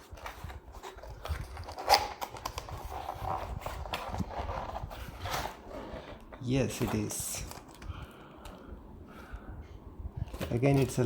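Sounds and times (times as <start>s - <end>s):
packaging rustling: 0.0s - 8.6s, 10.2s - 11.0s.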